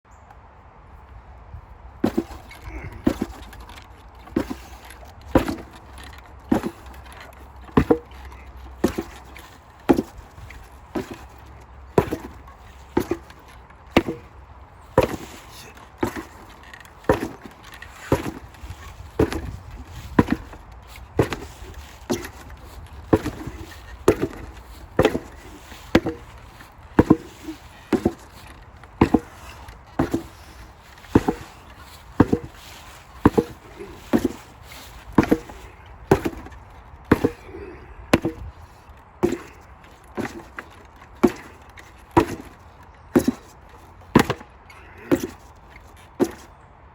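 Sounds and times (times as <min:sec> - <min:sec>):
sledgehammer striking: 0:02.0 - 0:14.4, 0:15.0 - 0:38.6, 0:40.2 - 0:43.5, 0:44.1 - 0:45.5.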